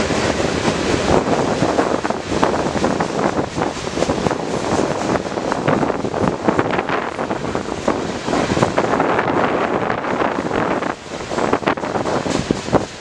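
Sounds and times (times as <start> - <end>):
freight train rumble: 0.0 - 13.0
steel wheels clattering on rails: 0.0 - 13.0
wind buffeting microphone: 0.0 - 13.0.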